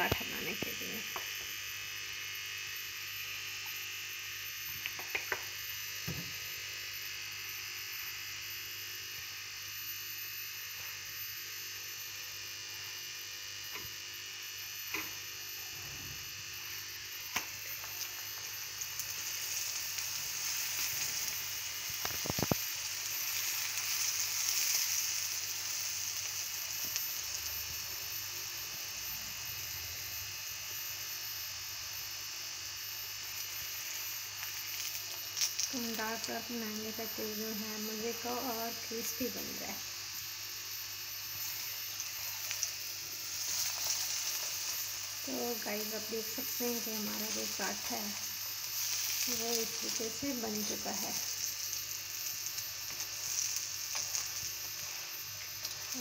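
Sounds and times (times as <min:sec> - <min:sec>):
oil sizzling on hot pan: 0:00.0 - 0:56.0.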